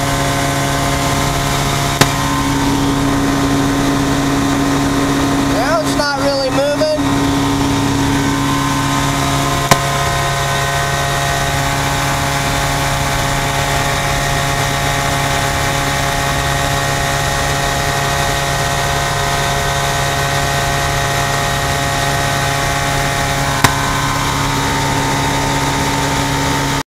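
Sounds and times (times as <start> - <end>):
light aircraft engine drone: 0.0 - 26.8.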